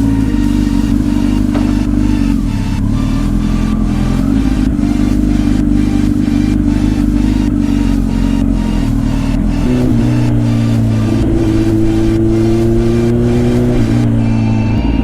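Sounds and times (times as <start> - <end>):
sport bike engine running: 0.0 - 15.0.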